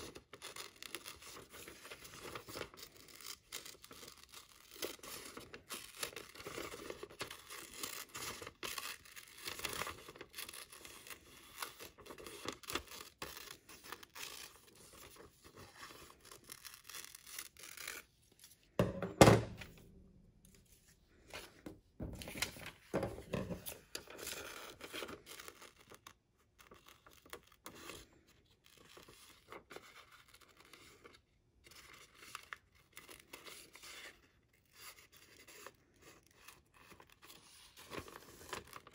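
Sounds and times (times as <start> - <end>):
paper rustling and crinkling: 0.0 - 18.8, 20.5 - 38.9.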